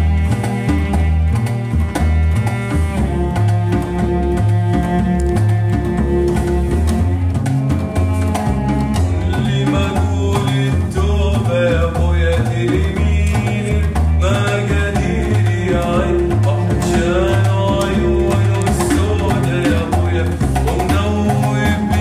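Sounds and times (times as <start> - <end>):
double bass line: 0.0 - 22.0
percussion strokes: 0.0 - 22.0
sliding melody notes: 0.0 - 22.0.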